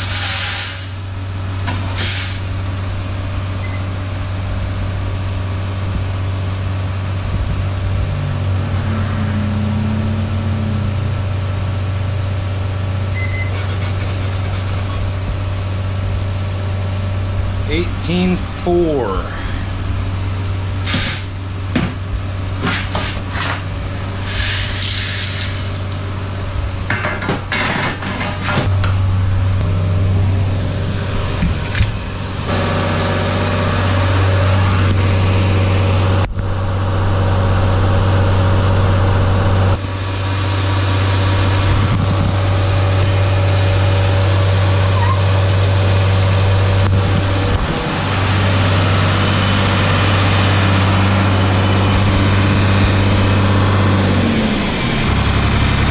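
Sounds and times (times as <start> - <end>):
large engine humming: 0.0 - 55.9.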